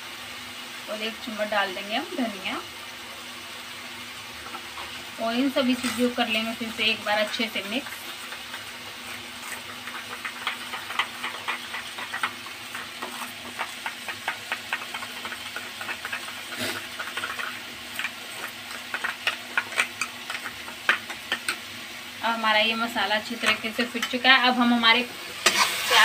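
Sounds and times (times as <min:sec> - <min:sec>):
food frying in oil: 0:00.0 - 0:26.0.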